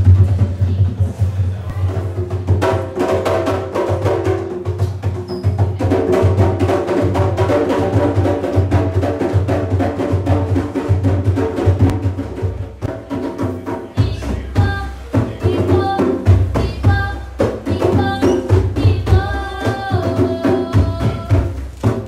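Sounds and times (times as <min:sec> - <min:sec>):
hand drums playing: 0:00.0 - 0:22.0.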